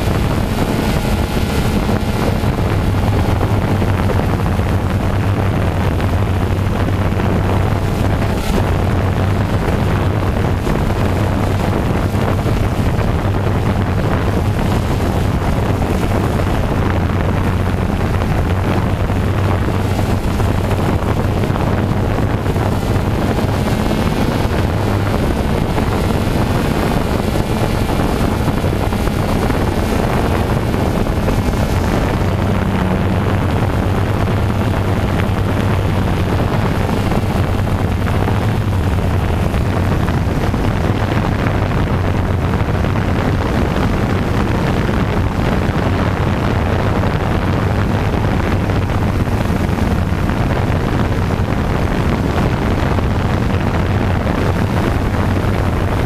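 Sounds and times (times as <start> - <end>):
small vehicle motor humming: 0.0 - 46.9.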